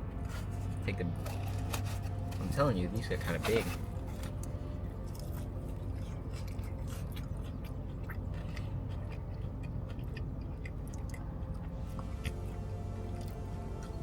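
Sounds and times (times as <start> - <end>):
steady low hum: 0.0 - 14.0
crunchy chewing: 0.2 - 14.0.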